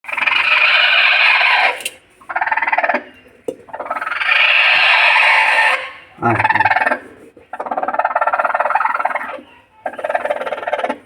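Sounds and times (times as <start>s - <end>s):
chickens squawking: 0.1s - 11.0s.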